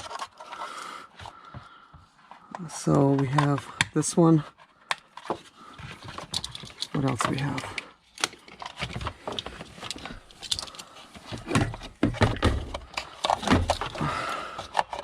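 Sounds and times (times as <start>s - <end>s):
plastic connectors clicking and knocking: 1.4s - 4.1s, 4.8s - 15.0s.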